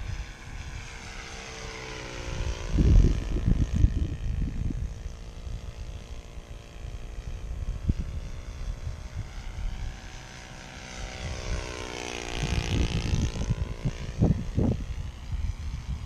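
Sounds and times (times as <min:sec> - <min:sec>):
wind rumble on microphone: 0:00.0 - 0:01.1, 0:02.1 - 0:10.4, 0:11.0 - 0:16.0
model airplane engine buzz: 0:00.0 - 0:16.0.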